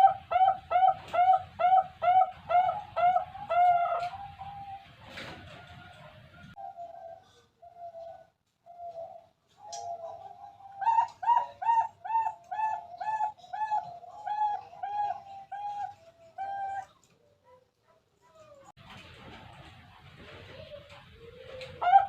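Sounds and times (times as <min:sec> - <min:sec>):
dove cooing: 0:00.0 - 0:17.6, 0:20.4 - 0:22.0.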